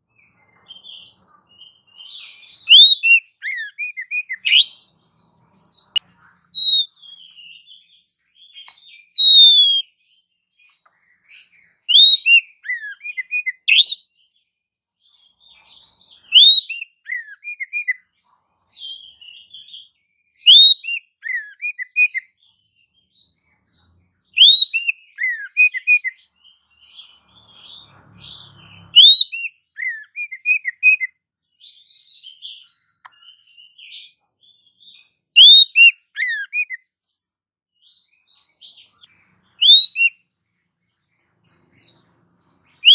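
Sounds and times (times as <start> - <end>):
continuous high bird twitter: 0.0 - 42.9
upward-sweeping bird whistle: 0.3 - 18.1, 18.7 - 23.4, 24.2 - 42.9.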